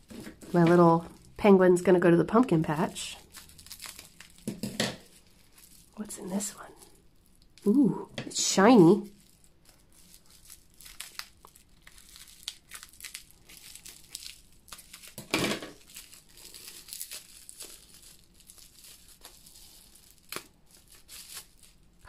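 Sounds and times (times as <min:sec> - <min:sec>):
plastic wrapping crinkling: 0:00.0 - 0:01.4, 0:02.3 - 0:22.0.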